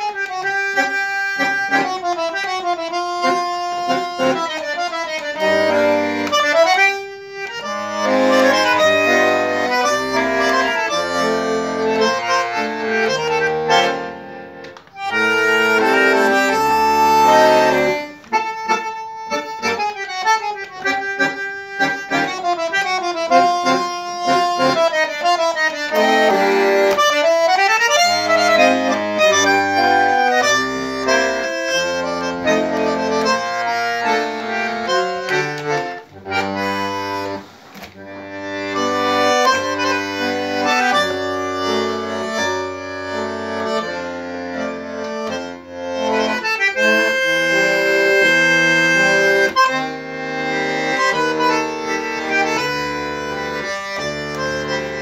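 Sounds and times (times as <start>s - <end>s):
bandoneon melody: 0.0s - 55.0s.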